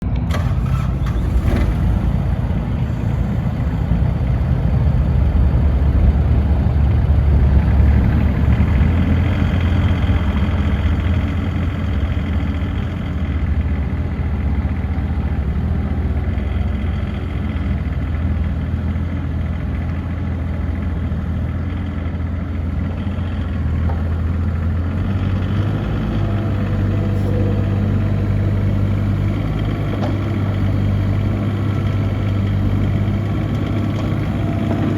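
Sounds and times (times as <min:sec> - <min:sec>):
mini excavator diesel engine: 0:00.0 - 0:34.9.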